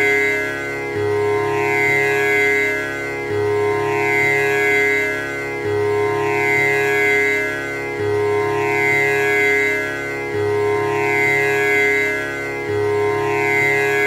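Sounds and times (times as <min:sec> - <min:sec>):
tanpura drone: 0:00.0 - 0:14.0.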